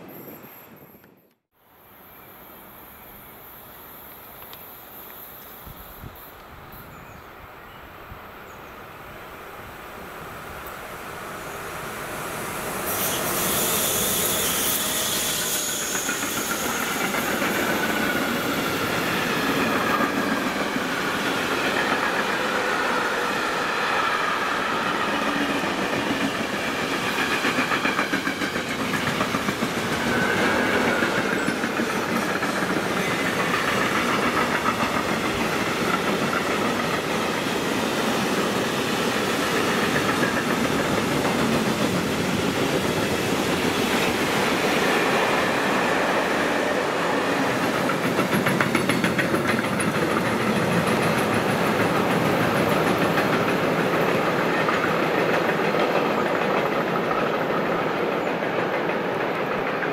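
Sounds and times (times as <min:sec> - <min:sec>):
electric train passing: 0:09.0 - 0:59.9.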